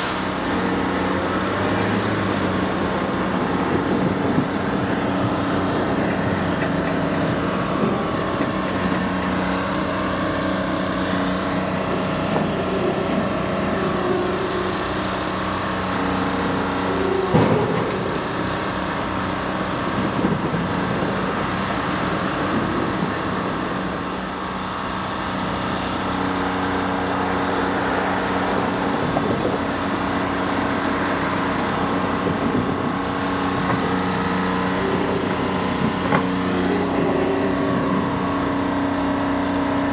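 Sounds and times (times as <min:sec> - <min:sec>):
diesel locomotive engines running: 0:00.0 - 0:39.9.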